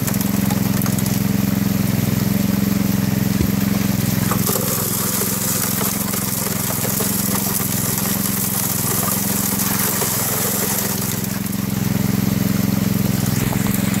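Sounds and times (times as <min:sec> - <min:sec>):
small gasoline engine running: 0:00.0 - 0:14.0
water rushing: 0:00.4 - 0:14.0.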